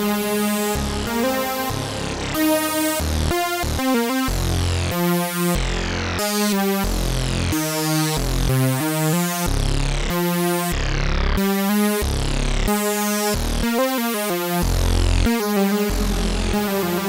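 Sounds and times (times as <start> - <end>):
synthesizer chords: 0.0 - 9.2, 10.8 - 17.0
synthesizer bass notes: 0.0 - 17.0.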